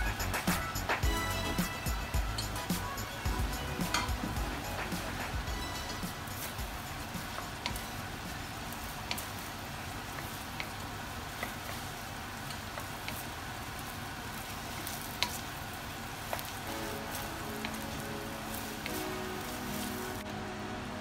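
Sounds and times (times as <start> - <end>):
chicken sizzling in a pan: 0.0 - 20.3.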